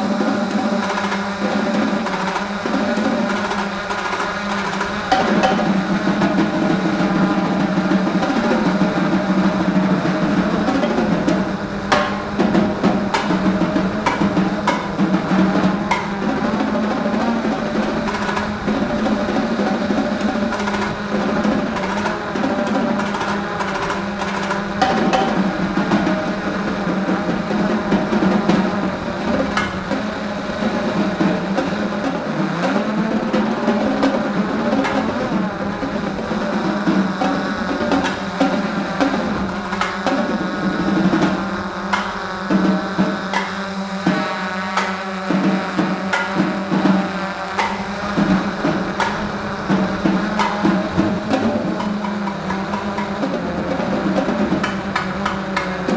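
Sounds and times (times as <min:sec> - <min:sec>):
drone motors buzzing: 0:00.0 - 0:55.9.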